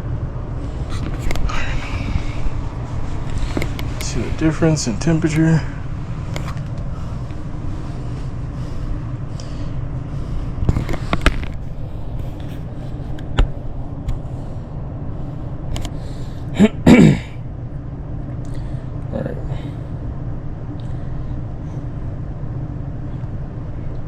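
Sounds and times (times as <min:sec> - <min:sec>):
air conditioning blower rumble: 0:00.0 - 0:24.0.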